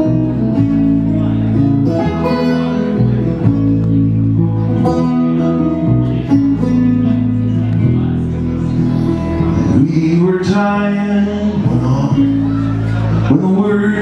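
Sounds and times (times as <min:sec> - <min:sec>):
acoustic guitar strumming: 0:00.0 - 0:14.0
banjo plucking: 0:00.0 - 0:14.0.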